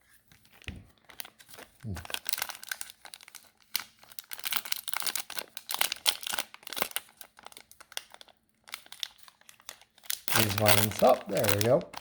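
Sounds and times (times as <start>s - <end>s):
plastic wrapper tearing and crinkling: 0.4s - 12.0s.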